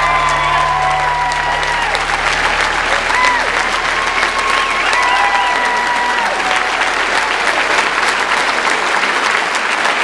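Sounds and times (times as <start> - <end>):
audience clapping: 0.0 - 10.0.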